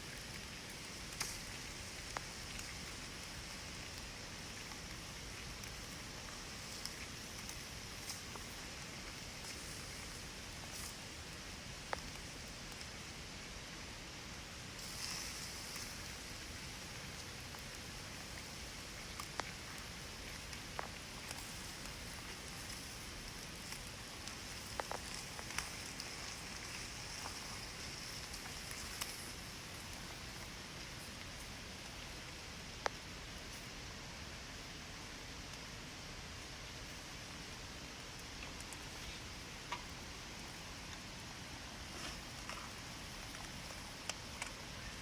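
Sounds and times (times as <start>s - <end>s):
steady rushing hiss: 0.0s - 45.0s.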